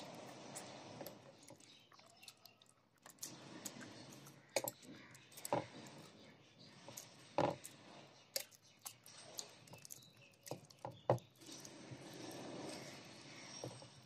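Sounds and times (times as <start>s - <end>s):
fingers working rice on plate: 0.0s - 14.0s.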